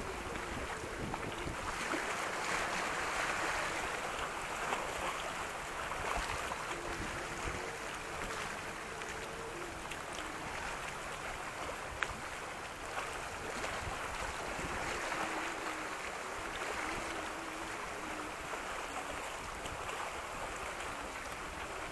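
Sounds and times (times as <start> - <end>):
waves washing against rocks: 0.0 - 21.9
wind on microphone: 0.0 - 21.9.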